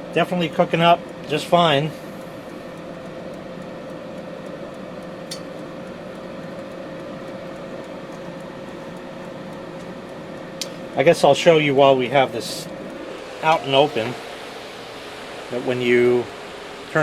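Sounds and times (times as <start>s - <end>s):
oven fan whirring: 0.0s - 17.0s
steady hum: 0.0s - 17.0s.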